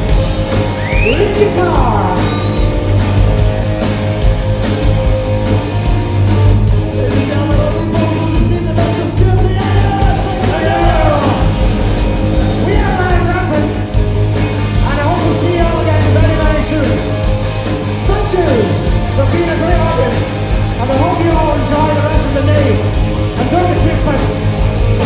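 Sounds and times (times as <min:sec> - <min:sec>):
bending guitar lead line: 0:00.0 - 0:25.0
rock band playing live: 0:00.0 - 0:25.0.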